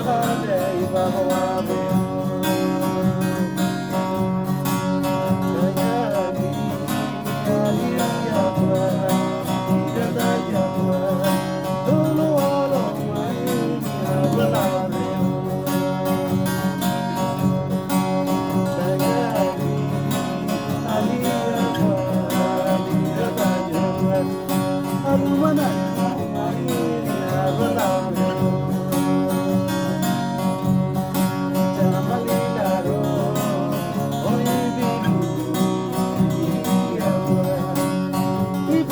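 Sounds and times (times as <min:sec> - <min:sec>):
acoustic guitars strummed: 0:00.0 - 0:38.9.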